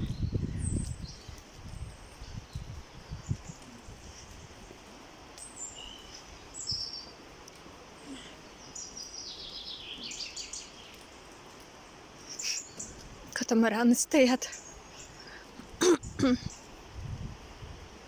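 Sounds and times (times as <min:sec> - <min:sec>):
songbirds chirping: 0:00.0 - 0:16.9
outdoor background hiss: 0:00.0 - 0:18.0.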